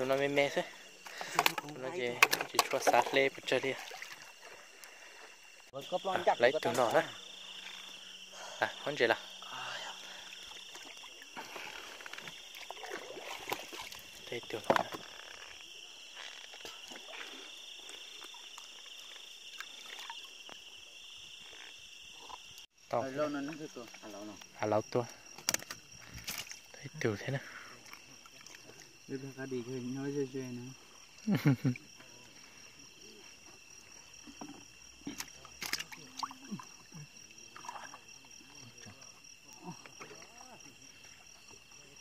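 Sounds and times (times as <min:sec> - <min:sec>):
night insects trilling: 0:00.0 - 0:42.0.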